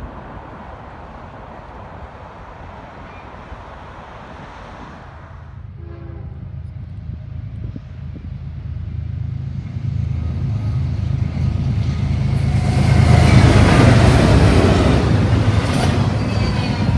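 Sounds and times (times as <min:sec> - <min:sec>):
train engine rumble: 0:00.0 - 0:16.9.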